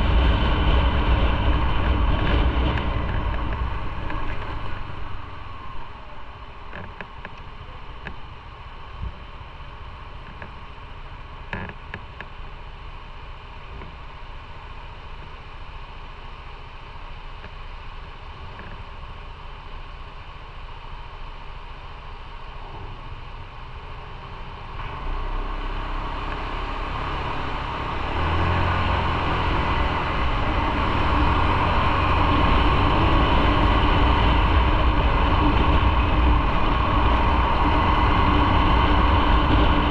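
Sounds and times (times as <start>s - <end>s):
rushing noise: 0.0s - 11.8s, 12.8s - 39.9s
motorcycle engine rumble: 0.0s - 39.9s.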